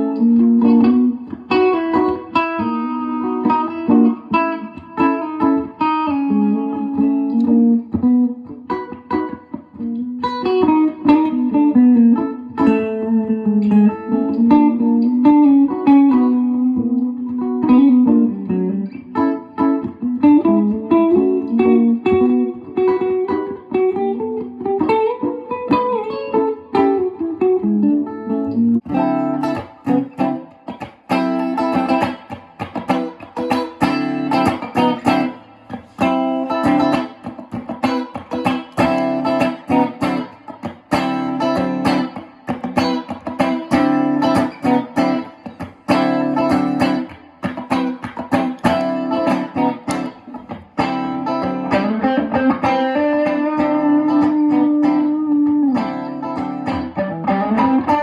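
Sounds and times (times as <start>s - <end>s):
guitar playing: 0.0s - 58.0s.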